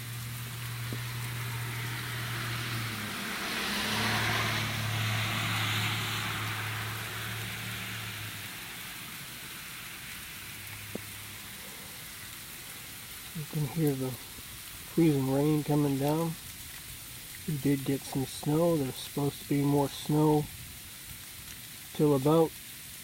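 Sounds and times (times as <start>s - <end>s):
car tyres hissing on wet road: 0.0s - 23.0s
freezing rain hissing: 0.0s - 23.0s.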